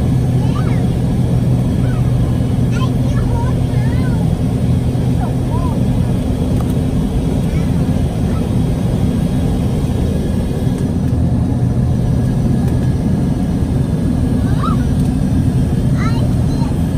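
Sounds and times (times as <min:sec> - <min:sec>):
jet engines at climb power: 0:00.0 - 0:16.9.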